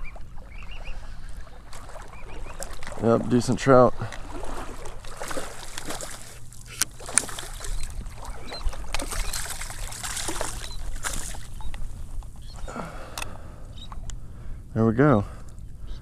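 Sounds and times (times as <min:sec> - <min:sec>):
water splashing and sloshing: 0:00.0 - 0:14.5
low steady rumble: 0:03.0 - 0:16.0.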